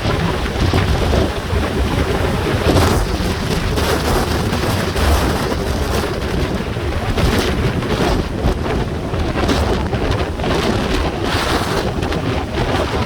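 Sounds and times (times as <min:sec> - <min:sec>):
breaking waves: 0:00.0 - 0:13.0
wind buffeting microphone: 0:00.0 - 0:13.0.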